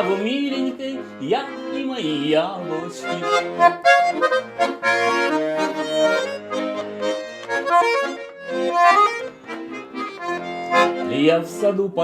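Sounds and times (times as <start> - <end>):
button accordion folk tune: 0.0 - 12.0.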